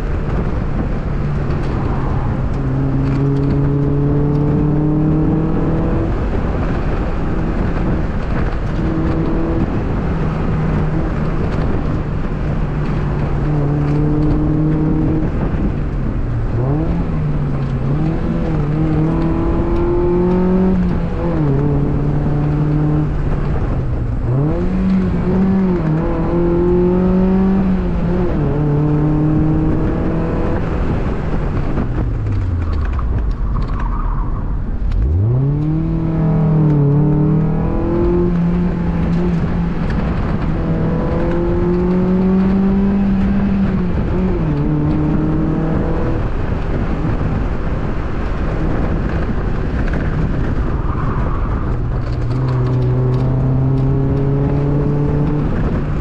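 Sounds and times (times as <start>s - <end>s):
car engine revving and shifting: 0.0s - 56.0s
road and wind noise: 0.0s - 56.0s.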